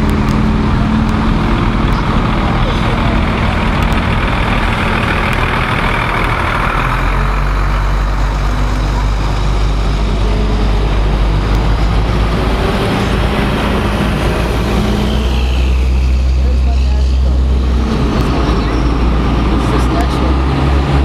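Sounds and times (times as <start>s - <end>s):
diesel truck engines running: 0.0s - 21.0s.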